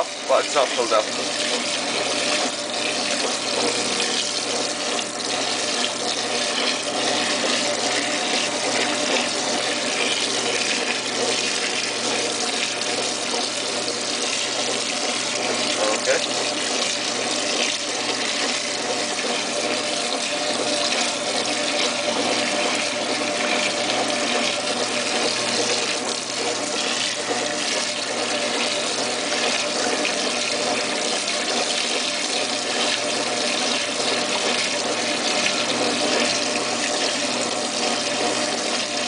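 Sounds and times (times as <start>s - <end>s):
water rushing in washing machine: 0.0s - 39.0s.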